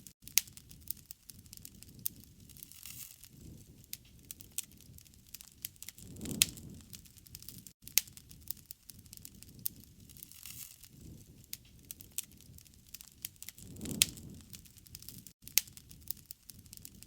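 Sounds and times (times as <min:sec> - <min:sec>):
campfire crackling: 0:00.2 - 0:17.0
sharp pops of fire: 0:00.2 - 0:17.0
low rush of flames: 0:00.6 - 0:17.0.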